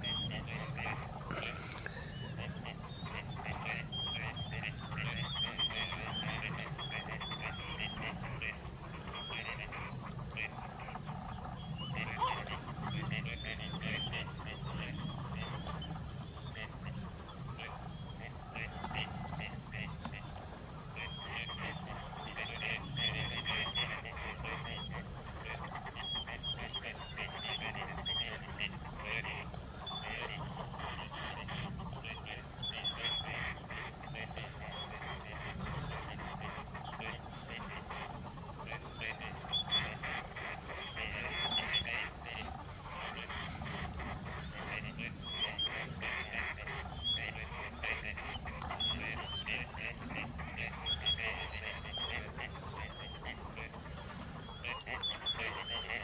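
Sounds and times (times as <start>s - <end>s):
duck quacking: 0.0s - 20.4s, 21.0s - 56.0s.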